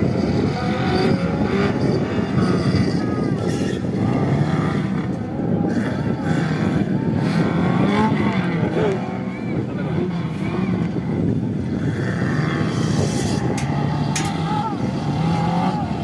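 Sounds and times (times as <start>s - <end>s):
buggy engine drone: 0.0s - 16.0s.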